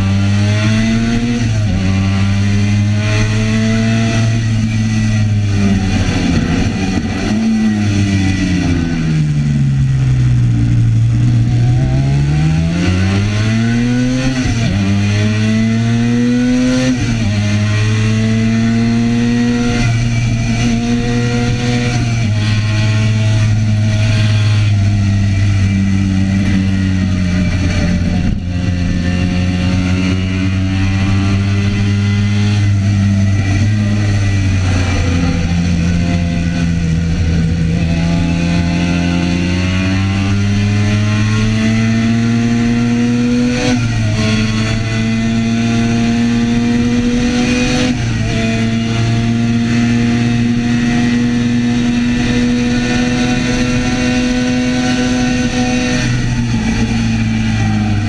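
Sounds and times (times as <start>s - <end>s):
racing motorcycle engine revving: 0.0s - 58.0s.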